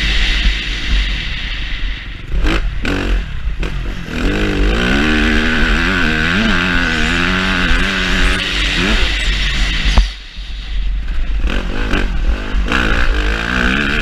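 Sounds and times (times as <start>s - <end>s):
motocross bike engine revving: 0.0s - 14.0s
wind rumble on microphone: 0.0s - 14.0s.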